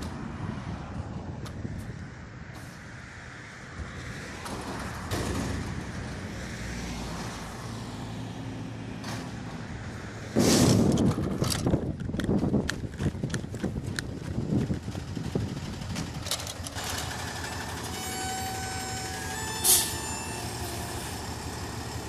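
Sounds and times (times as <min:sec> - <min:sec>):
street traffic: 0:00.0 - 0:22.0
pickup truck passing: 0:02.6 - 0:22.0
truck engine running: 0:03.6 - 0:22.0.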